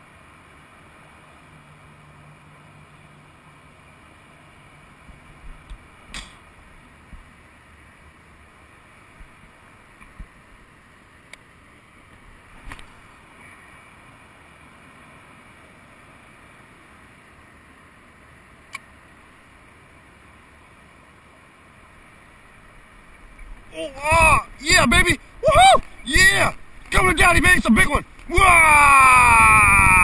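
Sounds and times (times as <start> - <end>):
faint outdoor background noise: 0.0 - 30.0.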